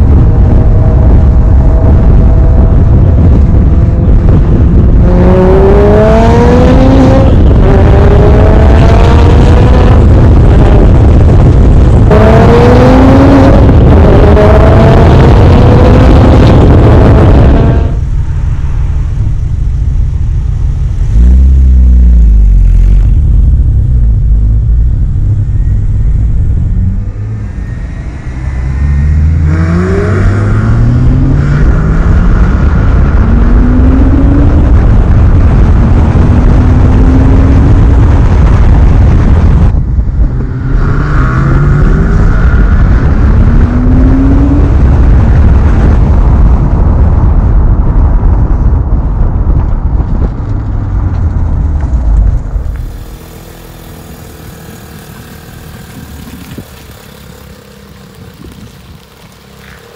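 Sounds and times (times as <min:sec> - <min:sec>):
car engine accelerating through gears: 0:00.0 - 0:19.6, 0:20.3 - 0:59.9
wind rumble on microphone: 0:00.0 - 0:59.9.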